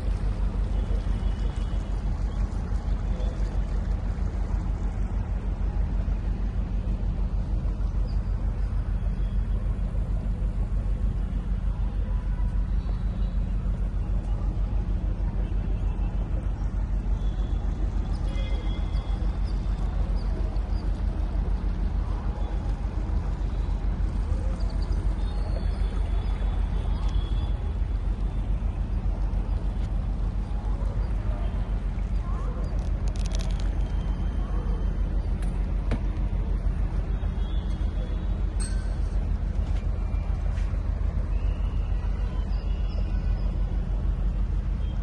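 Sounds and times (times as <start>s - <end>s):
motorboat engine running: 0.0s - 45.0s.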